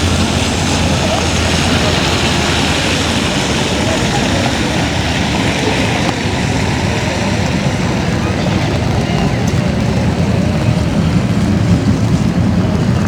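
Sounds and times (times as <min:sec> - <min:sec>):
chatter of many voices: 0:00.0 - 0:13.0
loud background hum: 0:00.0 - 0:13.0.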